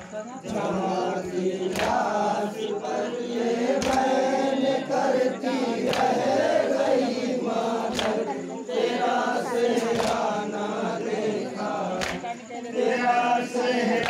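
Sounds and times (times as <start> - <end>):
men chanting in chorus: 0.0 - 14.0.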